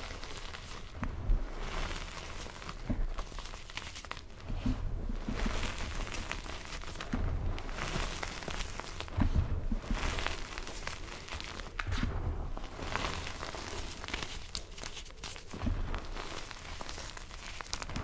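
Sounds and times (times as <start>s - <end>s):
chalk chunks crunching: 0.0s - 18.0s
chalk sifting through fingers: 0.0s - 18.0s.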